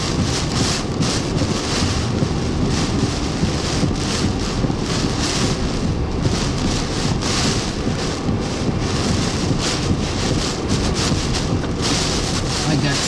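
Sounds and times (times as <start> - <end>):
gusting wind: 0.0 - 13.0
heavy rain: 0.0 - 13.0
steady low rumble: 0.0 - 13.0.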